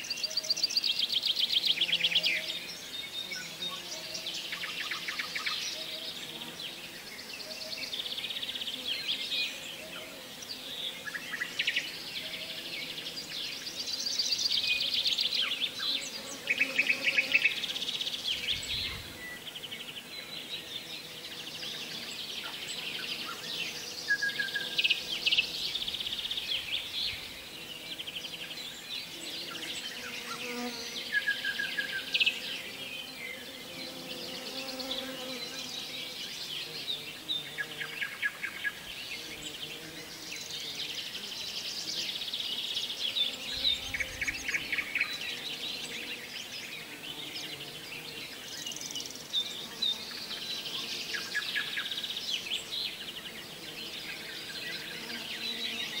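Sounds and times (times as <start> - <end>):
insects buzzing trills: 0.0 - 56.0.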